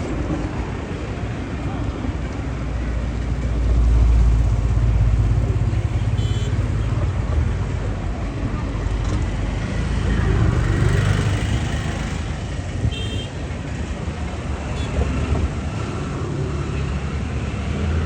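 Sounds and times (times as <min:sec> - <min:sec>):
motorcycles and cars passing: 0:00.0 - 0:18.0.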